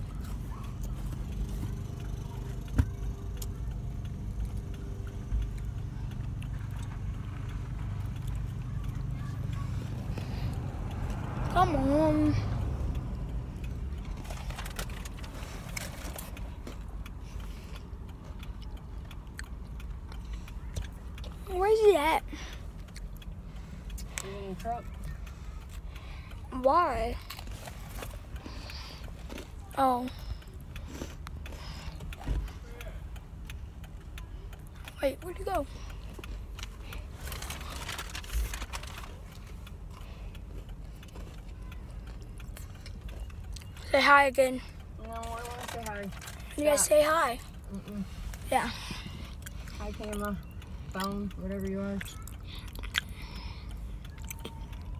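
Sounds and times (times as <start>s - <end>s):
vehicle cabin rumble: 0.0s - 54.9s.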